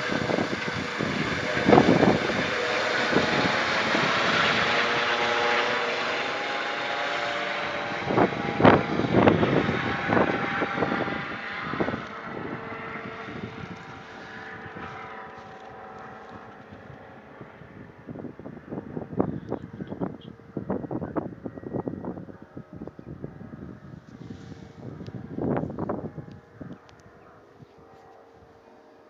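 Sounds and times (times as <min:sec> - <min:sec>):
wind buffeting microphone: 0:00.0 - 0:28.6
helicopter rotor drone: 0:00.0 - 0:29.0.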